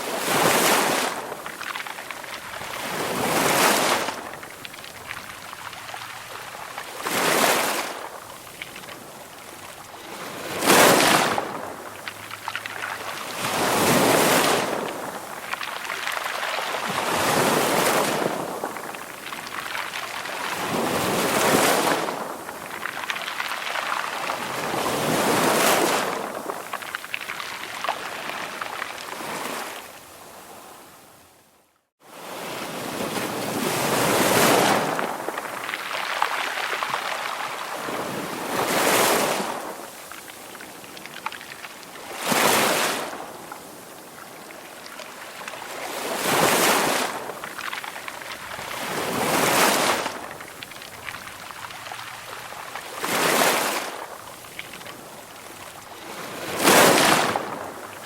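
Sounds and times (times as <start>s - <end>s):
ocean waves breaking: 0.0s - 30.8s, 32.1s - 58.0s.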